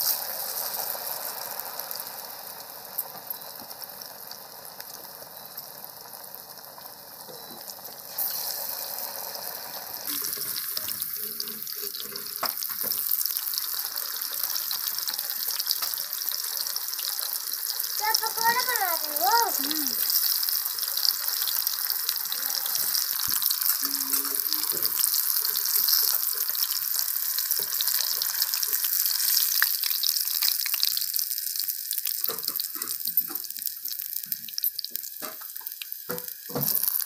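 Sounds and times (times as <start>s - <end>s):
hot oil sizzling: 0.0s - 37.0s.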